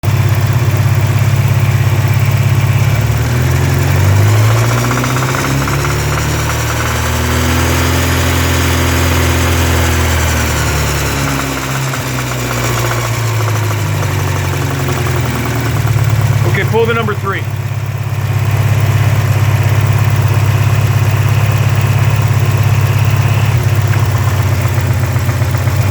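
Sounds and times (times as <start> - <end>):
car engine revving with knock: 0.0 - 25.9.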